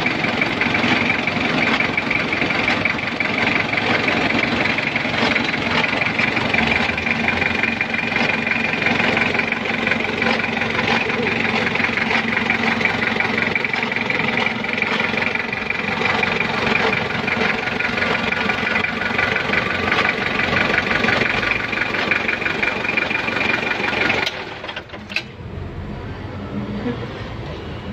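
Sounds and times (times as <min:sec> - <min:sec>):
diesel engine clattering: 0:00.0 - 0:27.9.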